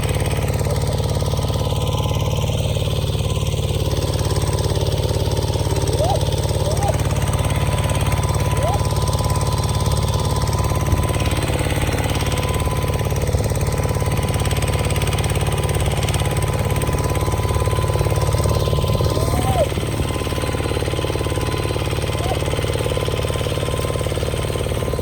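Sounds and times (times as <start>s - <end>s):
heavy machine engine running: 0.0s - 25.0s.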